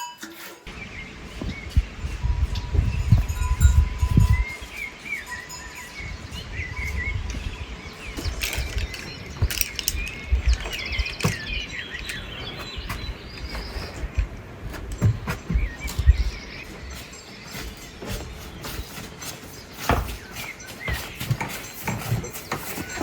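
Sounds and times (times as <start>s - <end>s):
small birds chirping and twittering: 0.6s - 23.0s.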